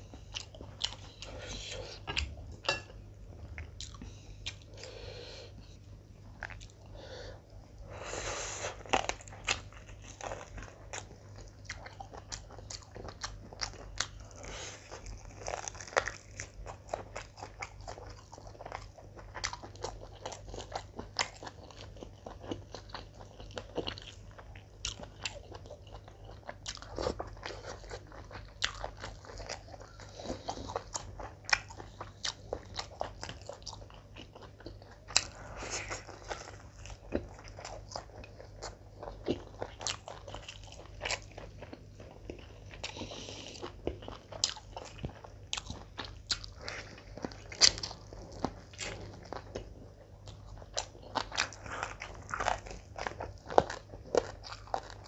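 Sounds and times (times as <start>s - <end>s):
person chewing wetly: 0.0s - 7.8s, 8.7s - 55.0s.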